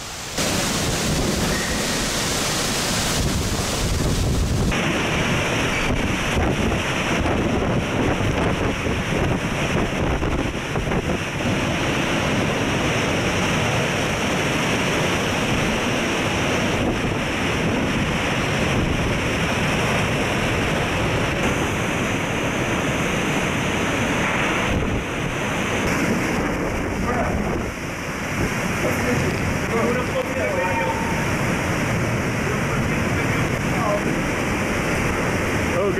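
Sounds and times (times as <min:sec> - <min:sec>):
wind noise on microphone: 0:00.0 - 0:29.9
strong wind with rain: 0:00.0 - 0:35.9.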